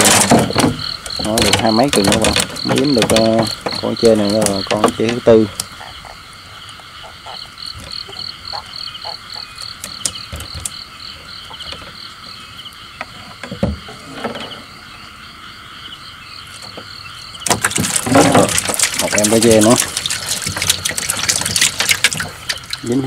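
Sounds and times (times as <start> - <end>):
frogs and insects trilling: 0.0 - 23.0.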